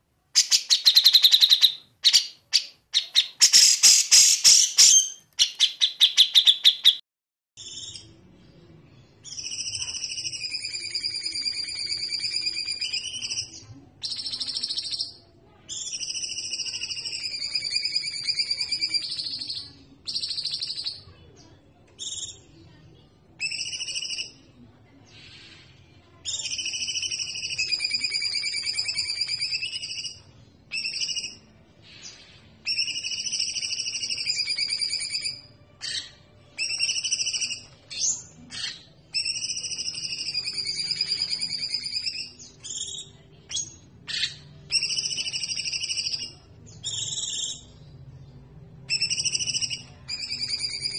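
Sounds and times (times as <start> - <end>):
songbirds singing: 9.2 - 22.7, 23.4 - 50.9.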